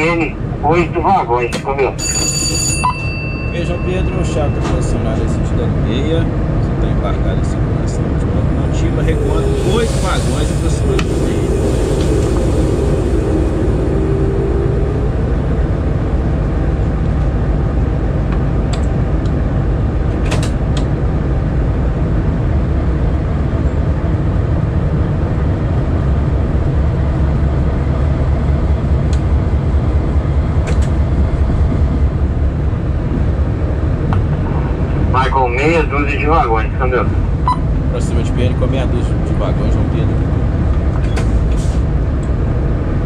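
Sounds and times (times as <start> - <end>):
diesel locomotive engines rumbling: 0.0 - 43.0.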